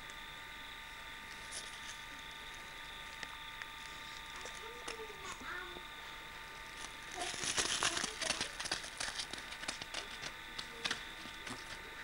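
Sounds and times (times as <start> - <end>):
faint steady hum: 0.0 - 12.0
crackling and crinkling: 1.2 - 5.7, 6.5 - 12.0.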